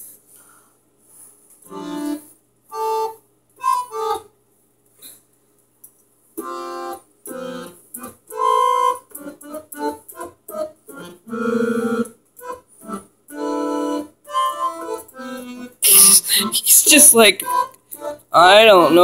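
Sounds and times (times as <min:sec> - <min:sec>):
organ notes and chords: 0:01.7 - 0:04.4, 0:06.4 - 0:19.0.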